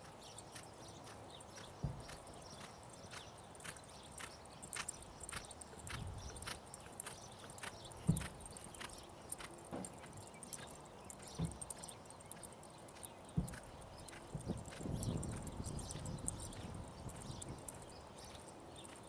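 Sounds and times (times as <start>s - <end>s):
horse hooves striking ground: 0.0s - 19.0s.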